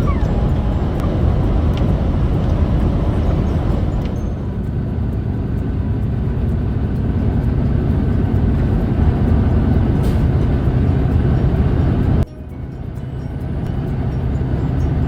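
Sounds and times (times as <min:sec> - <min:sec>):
car driving on road: 0:00.0 - 0:15.0.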